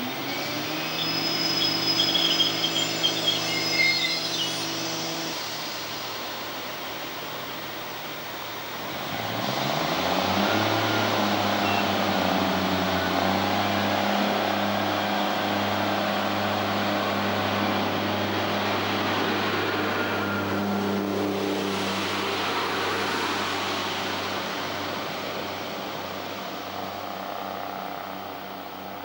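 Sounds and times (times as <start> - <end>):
diesel train engine revving: 0.0 - 29.0.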